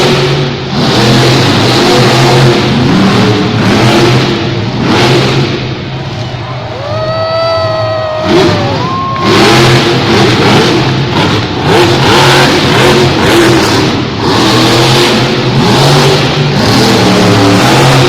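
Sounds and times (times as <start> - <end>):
truck engine revving hard: 0.0 - 6.2, 8.1 - 18.0.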